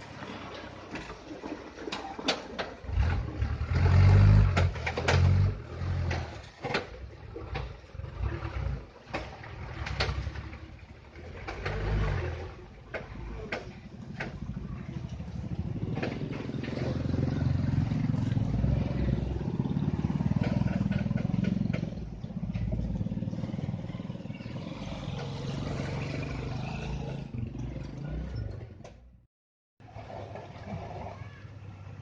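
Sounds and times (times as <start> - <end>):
heavy vehicle engine under load: 0.0 - 32.0.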